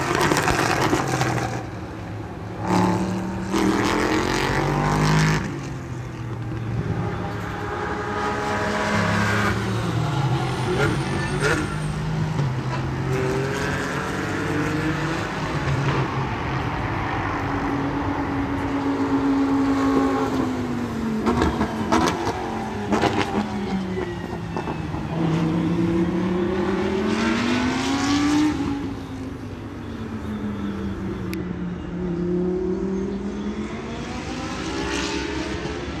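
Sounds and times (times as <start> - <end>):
race car engines: 0.0 - 36.0.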